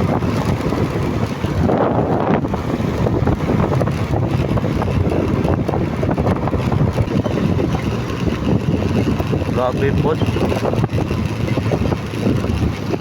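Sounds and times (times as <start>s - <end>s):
motorcycle engine: 0.0s - 13.0s
wind buffeting microphone: 0.0s - 13.0s.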